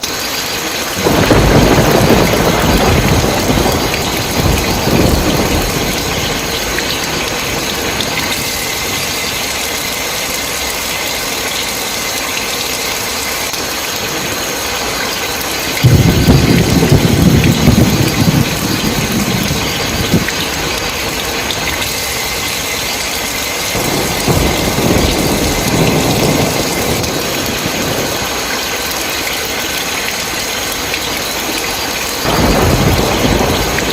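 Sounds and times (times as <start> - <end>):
heavy rain: 0.0 - 33.9
thunder rolling: 1.0 - 12.0, 15.7 - 33.9.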